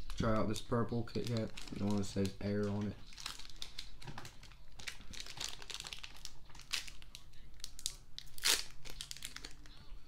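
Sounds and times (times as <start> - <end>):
plastic wrapper crinkling: 0.0 - 9.9.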